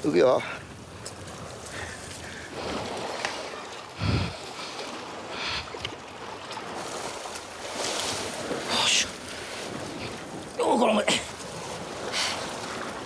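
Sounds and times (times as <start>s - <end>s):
sea water sloshing against rocks: 0.6s - 13.0s.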